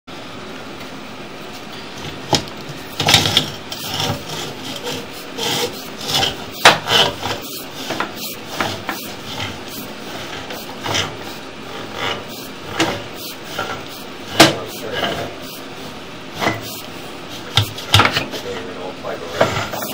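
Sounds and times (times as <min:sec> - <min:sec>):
steady hiss: 0:00.1 - 0:19.9
cable scraping in pipe: 0:01.9 - 0:19.9.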